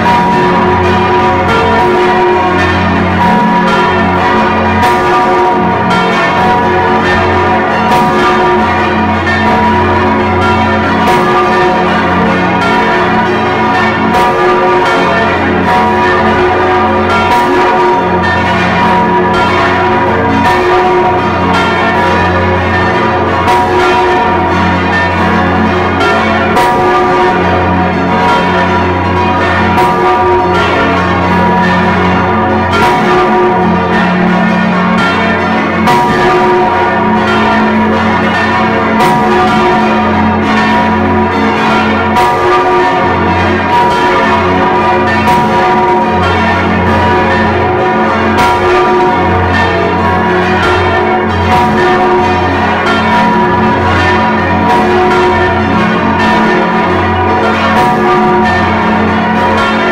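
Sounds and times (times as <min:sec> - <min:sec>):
large church bell striking: 0:00.0 - 0:59.9
other bells ringing: 0:00.0 - 0:59.9.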